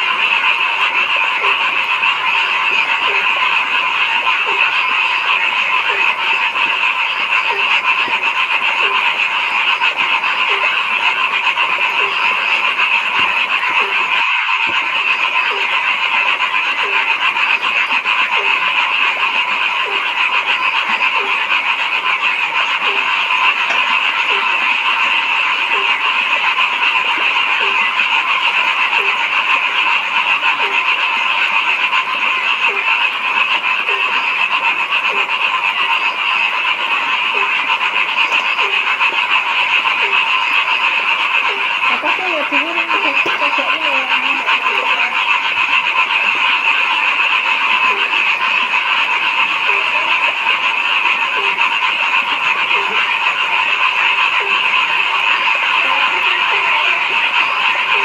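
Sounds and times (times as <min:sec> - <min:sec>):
chorus of frogs calling: 0:00.0 - 0:58.0
lower-pitched frog call: 0:00.0 - 0:58.0.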